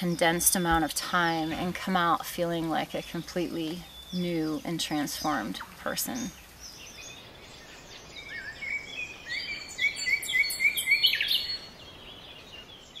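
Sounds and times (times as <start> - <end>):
tropical forest birds singing: 0.0 - 13.0.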